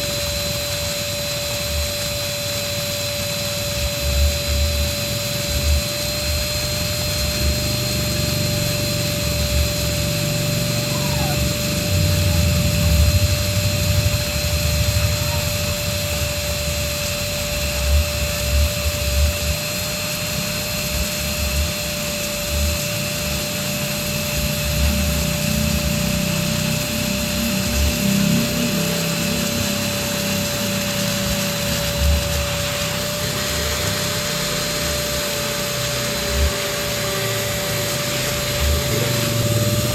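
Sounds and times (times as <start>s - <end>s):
electric air pump whirring: 0.0s - 39.9s.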